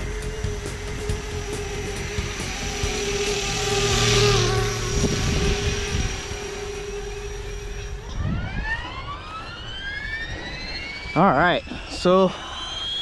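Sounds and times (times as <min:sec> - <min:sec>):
model helicopter motor whine: 0:00.0 - 0:13.0
steady motor hum: 0:00.0 - 0:13.0.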